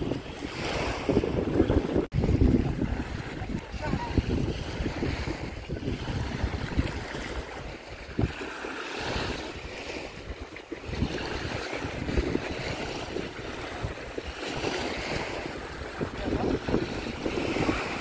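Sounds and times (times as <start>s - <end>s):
small waves washing on sand: 0.0s - 18.0s
wind buffeting microphone: 0.0s - 18.0s.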